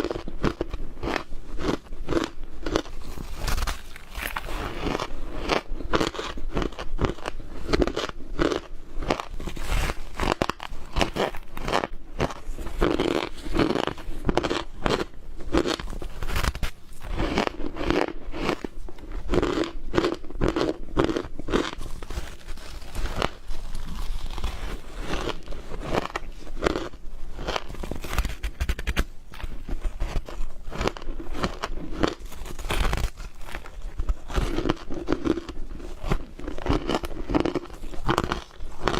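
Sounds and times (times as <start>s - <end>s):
ice being chewed crunching: 0.0s - 38.9s.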